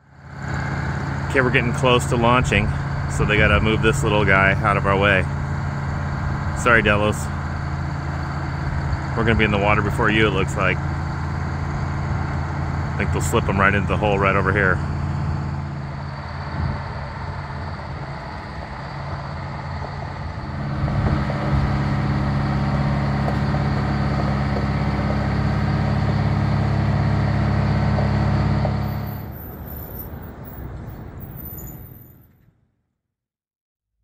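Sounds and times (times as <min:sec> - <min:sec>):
machinery engine running: 0:00.0 - 0:31.4.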